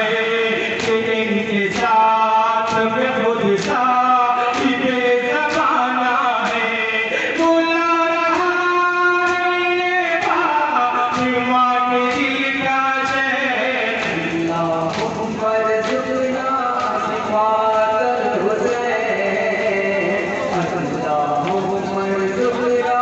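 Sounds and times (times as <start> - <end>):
crowd chest-beating slaps: 0.0 - 17.4, 18.6 - 22.9
men singing lament: 0.0 - 23.0.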